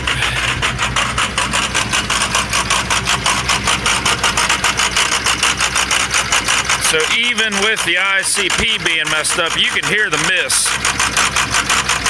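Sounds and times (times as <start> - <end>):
diesel engine clattering at high idle: 0.0 - 12.0.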